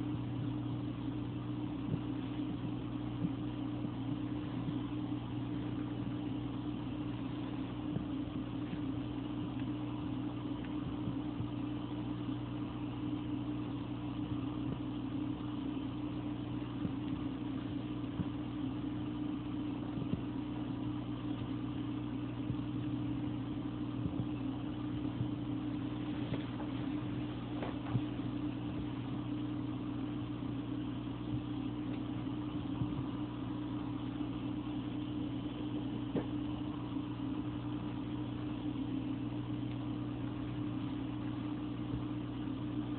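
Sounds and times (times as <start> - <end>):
aquarium pump humming: 0.0 - 42.9.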